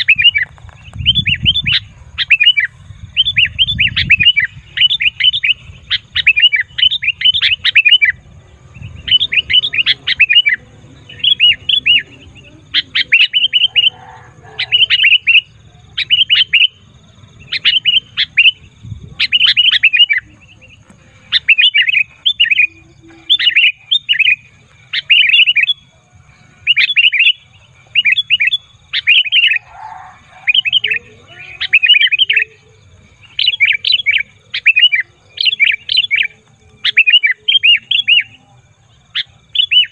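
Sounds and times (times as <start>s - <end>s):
bulbul chattering chirps: 0.0s - 39.9s.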